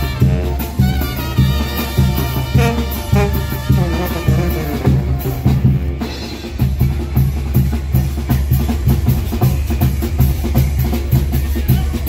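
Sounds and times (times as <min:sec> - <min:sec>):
band bass drum and snare beat: 0:00.0 - 0:12.0
band melody: 0:00.0 - 0:12.0.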